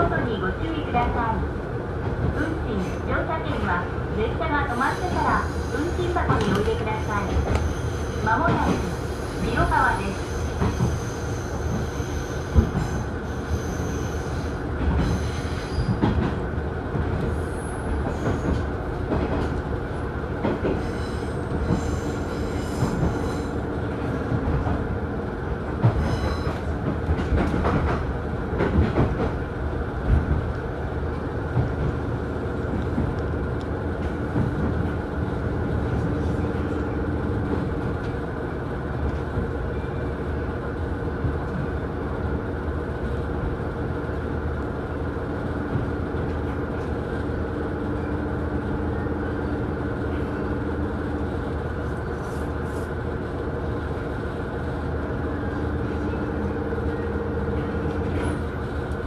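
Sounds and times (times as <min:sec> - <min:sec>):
diesel railcar engine running: 0:00.0 - 0:59.0.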